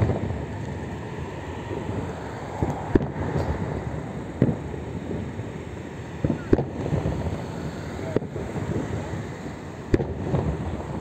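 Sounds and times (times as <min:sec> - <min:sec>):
distant fireworks bursting: 0:00.0 - 0:11.0
wind noise on microphone: 0:00.0 - 0:11.0.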